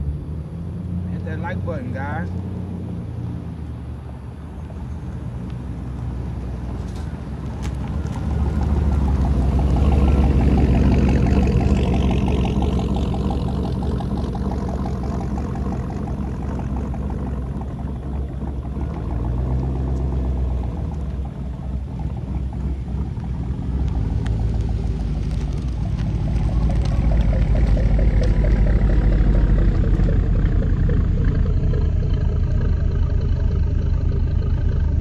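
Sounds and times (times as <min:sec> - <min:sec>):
truck engine rumble driving past: 0:00.0 - 0:35.0.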